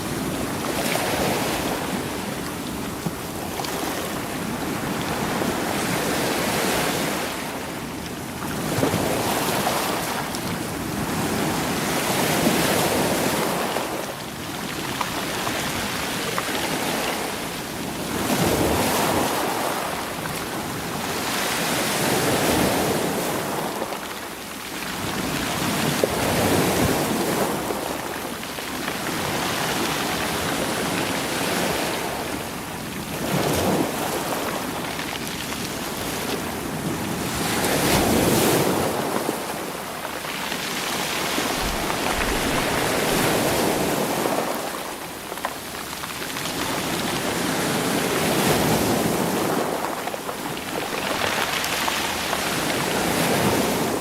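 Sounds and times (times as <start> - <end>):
waves washing over stones: 0.0 - 54.0.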